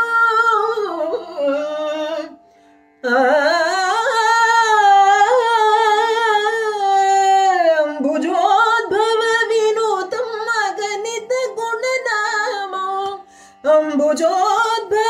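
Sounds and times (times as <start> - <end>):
woman singing: 0.0 - 2.4, 3.0 - 15.0.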